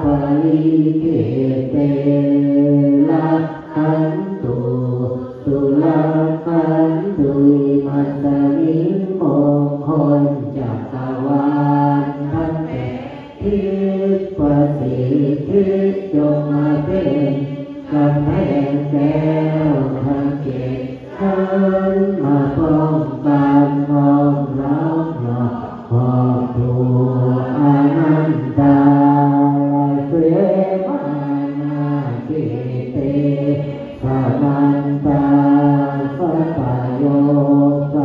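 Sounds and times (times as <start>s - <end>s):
monks chanting together: 0.0s - 38.0s.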